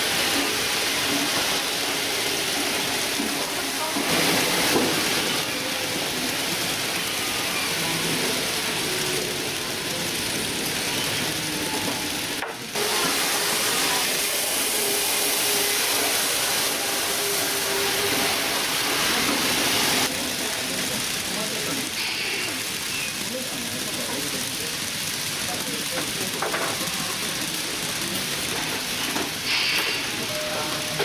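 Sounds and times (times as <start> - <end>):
model train wheels rattling: 0.1 - 31.0.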